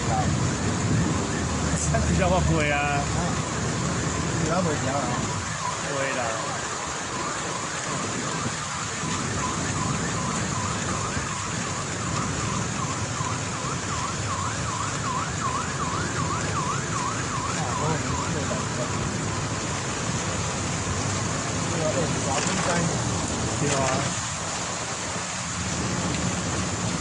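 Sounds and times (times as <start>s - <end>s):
siren yelping: 0.0s - 22.8s
heavy rain on flooded road: 0.0s - 27.0s.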